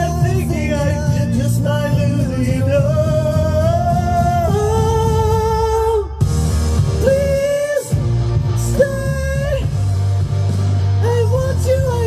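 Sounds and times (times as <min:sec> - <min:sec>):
pop-rock backing track with guitar: 0:00.0 - 0:12.0.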